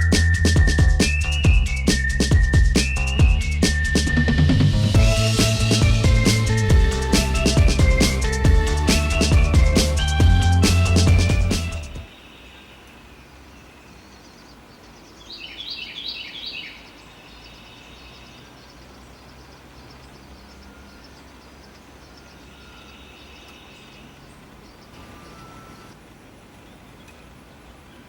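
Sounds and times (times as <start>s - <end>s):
bird chirping: 0.0s - 26.0s
faint outdoor background: 0.0s - 28.0s.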